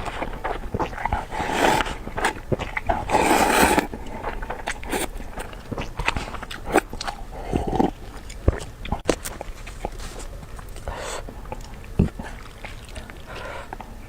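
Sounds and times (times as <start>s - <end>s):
chewing with small clicks: 0.0s - 14.0s
person eating noodles: 0.0s - 14.0s.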